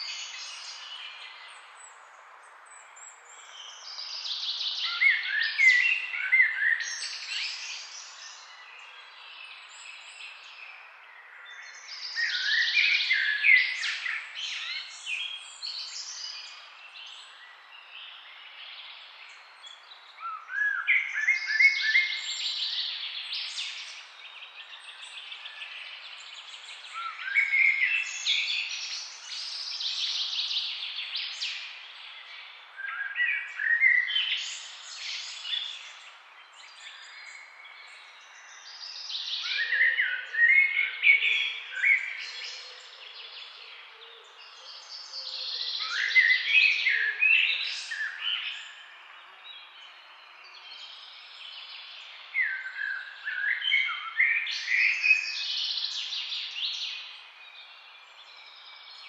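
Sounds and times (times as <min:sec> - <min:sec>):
birds chirping and singing: 0:02.7 - 0:59.0.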